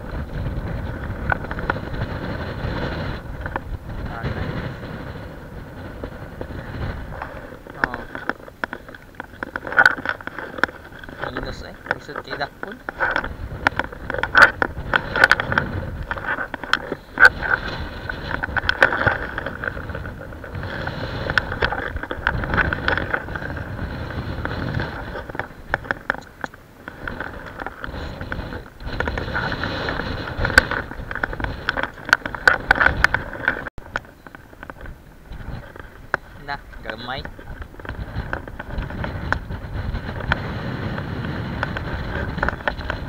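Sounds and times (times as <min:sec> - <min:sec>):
wind buffeting microphone: 0:00.0 - 0:43.0
clicks and knocks of gear: 0:06.0 - 0:43.0.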